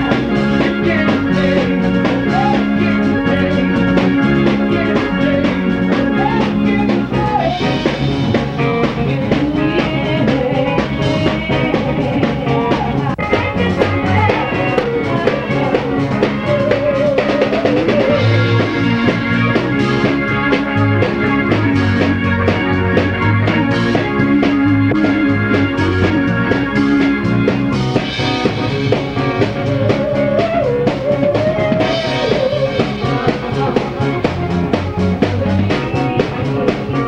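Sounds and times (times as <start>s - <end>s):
bass line: 0.0s - 37.0s
drum kit beat: 0.0s - 37.0s
wavering lead melody: 0.0s - 37.0s.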